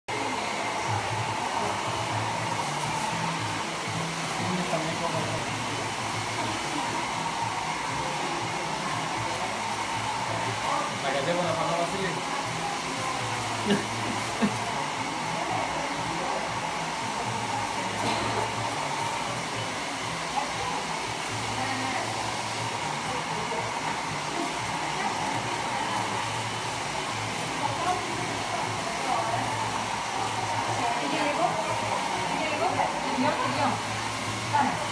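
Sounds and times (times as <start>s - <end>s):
hair dryer blowing: 0.1s - 34.9s.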